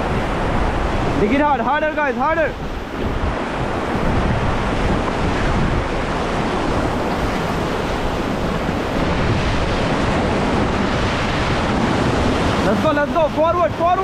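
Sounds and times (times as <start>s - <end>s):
rushing whitewater: 0.0s - 14.0s
wind buffeting microphone: 0.0s - 14.0s.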